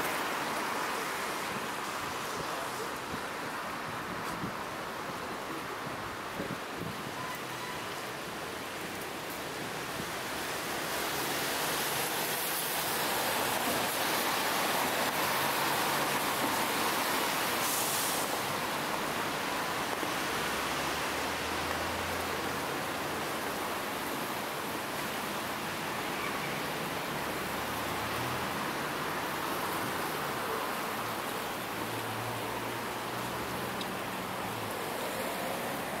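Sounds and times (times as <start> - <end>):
tyres on a wet road: 0.0 - 36.0.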